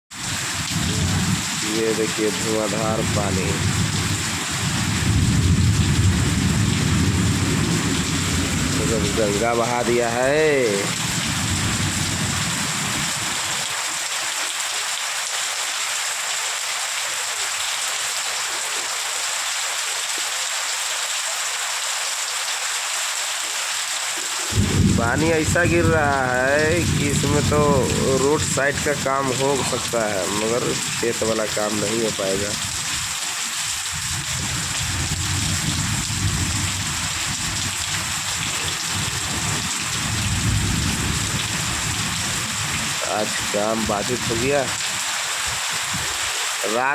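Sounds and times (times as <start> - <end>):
heavy rain falling: 0.1 - 46.9.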